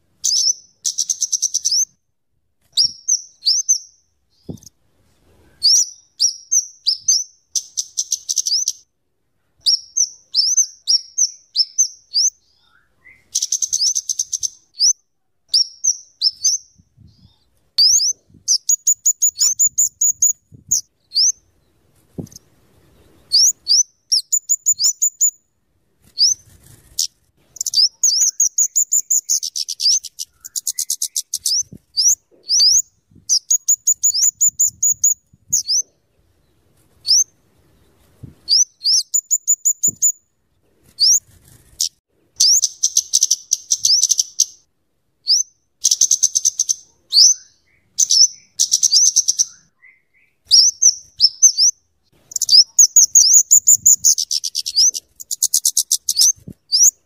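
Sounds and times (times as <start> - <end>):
bird chips and trills: 0.2 - 2.0, 5.6 - 8.8, 9.6 - 21.6, 23.2 - 25.4, 26.1 - 36.0, 38.5 - 40.2, 41.0 - 44.7, 45.3 - 57.0.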